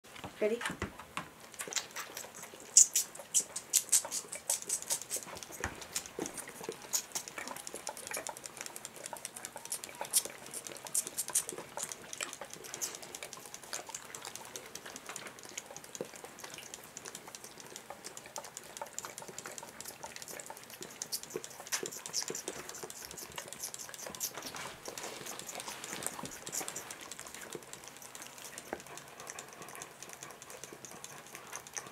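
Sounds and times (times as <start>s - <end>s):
dog licking: 1.3s - 31.9s
lamb sucking from bottle teat: 1.4s - 31.9s.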